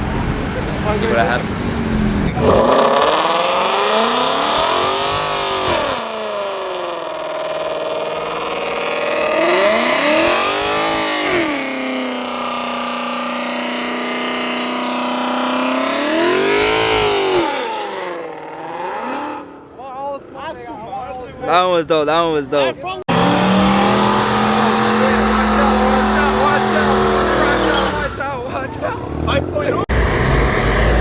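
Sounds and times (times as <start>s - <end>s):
car engine revving: 0.0s - 19.7s, 23.1s - 31.0s.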